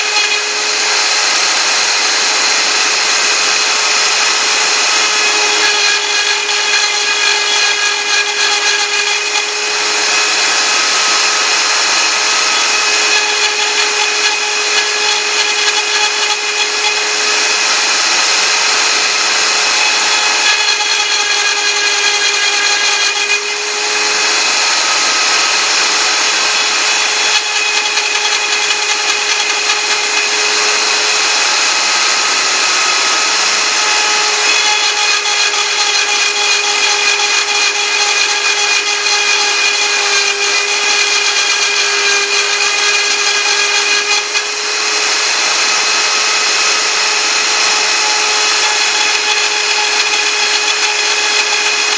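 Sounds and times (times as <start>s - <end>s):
cutter grinding hiss: 0.0s - 51.9s
router spindle whining: 0.0s - 51.9s.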